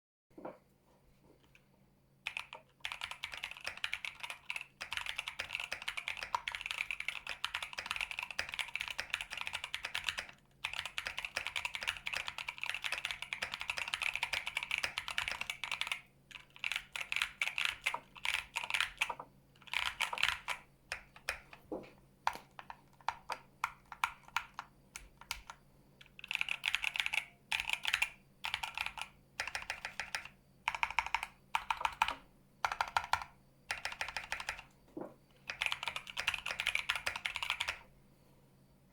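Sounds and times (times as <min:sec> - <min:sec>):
mechanical keyboard typing: 0:02.2 - 0:21.6, 0:22.2 - 0:34.7, 0:35.4 - 0:37.8.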